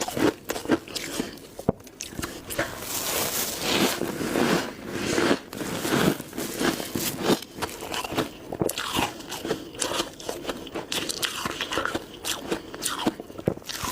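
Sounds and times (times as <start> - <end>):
person crunching ice: 0.0 - 13.9.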